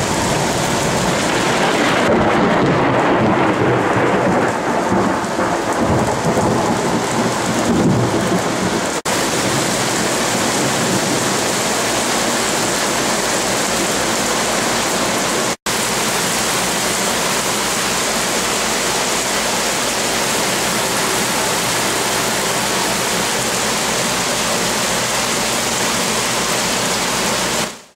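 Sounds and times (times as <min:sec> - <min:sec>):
thunder rumbling: 0:00.0 - 0:27.6
heavy rain downpour: 0:00.0 - 0:27.9.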